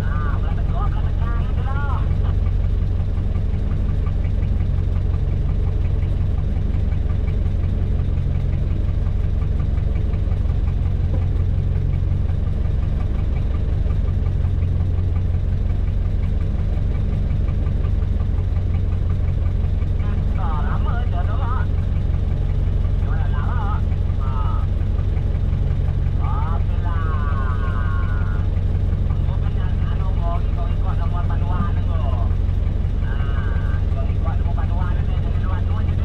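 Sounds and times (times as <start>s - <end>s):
boat engine idling: 0.0s - 36.0s.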